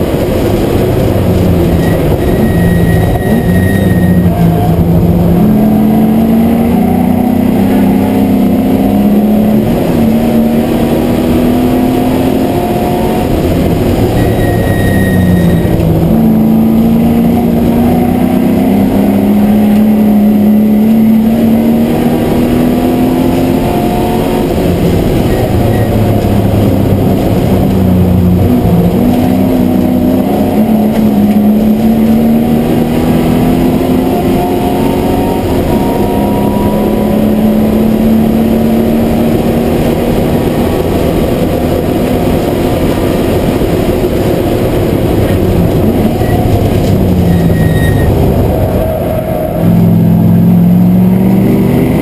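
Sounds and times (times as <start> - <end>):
race car engine revving: 0.0 - 52.0
road and wind noise: 0.0 - 52.0.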